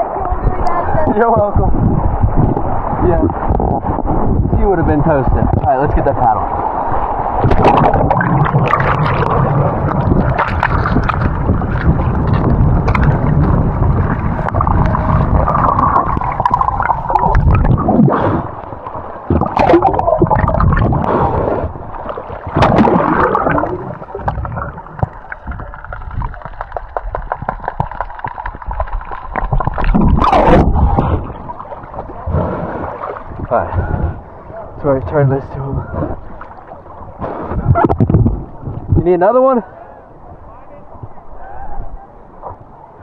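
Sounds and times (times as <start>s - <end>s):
water splashes: 0.0s - 39.2s.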